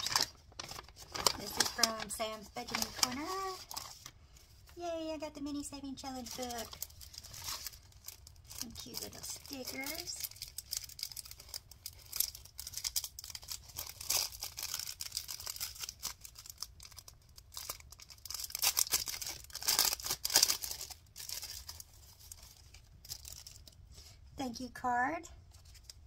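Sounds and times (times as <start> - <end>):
plastic sleeve crinkling: 0.0 - 24.2, 25.5 - 26.0.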